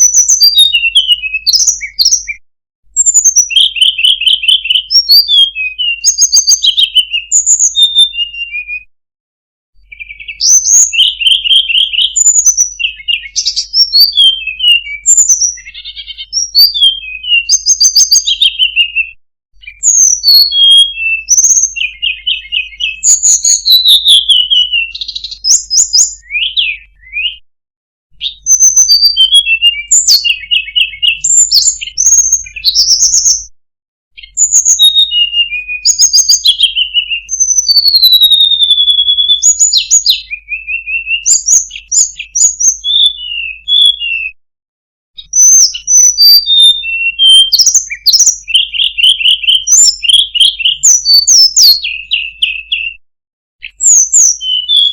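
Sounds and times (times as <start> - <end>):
bird singing whistled phrases: 0.0 - 2.4, 3.0 - 8.9, 9.8 - 27.4, 28.1 - 33.5, 34.2 - 44.4, 45.2 - 53.0, 53.6 - 54.9.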